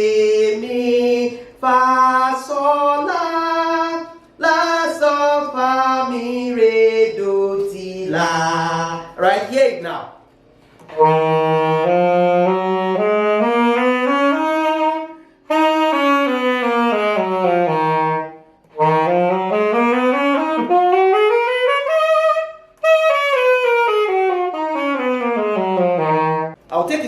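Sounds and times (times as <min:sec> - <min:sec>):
saxophone playing a scale: 0:00.0 - 0:07.3, 0:10.7 - 0:26.6.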